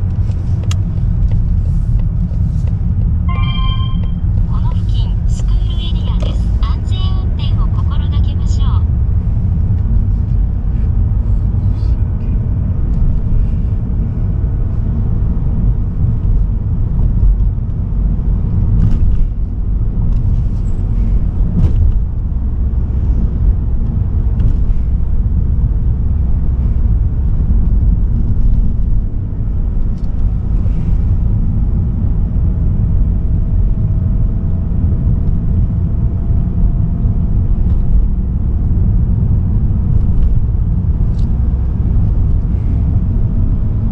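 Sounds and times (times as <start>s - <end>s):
tyre and engine rumble: 0.0s - 43.9s.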